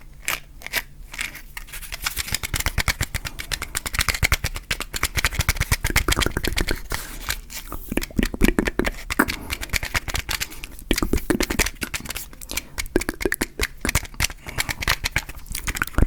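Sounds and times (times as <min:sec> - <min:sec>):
matchbox clicking and rattling: 0:00.2 - 0:16.0.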